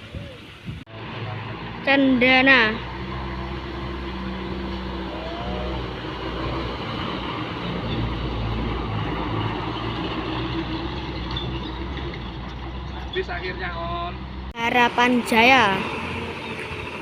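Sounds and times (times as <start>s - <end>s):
diesel bus engine running: 0.4s - 17.0s.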